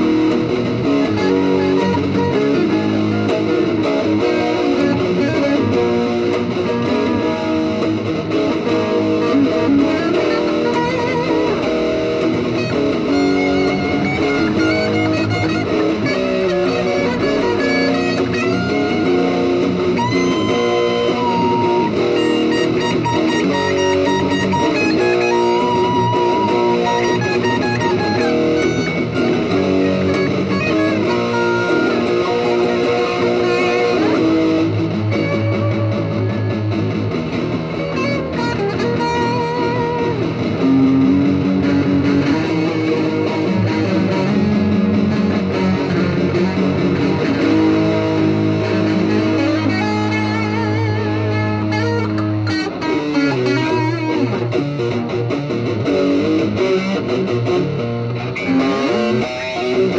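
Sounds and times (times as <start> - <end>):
electric guitars jamming: 0.0 - 59.9.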